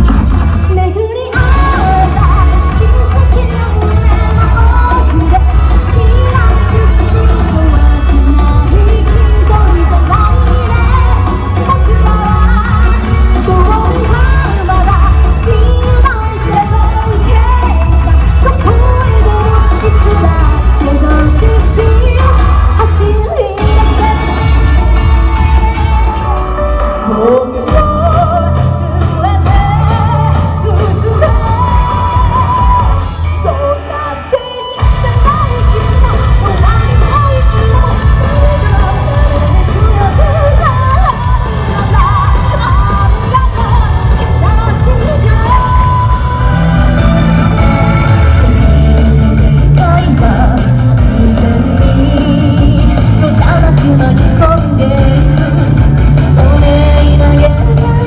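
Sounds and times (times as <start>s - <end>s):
bass line: 0.0s - 33.9s, 34.8s - 58.0s
person singing: 0.0s - 58.0s.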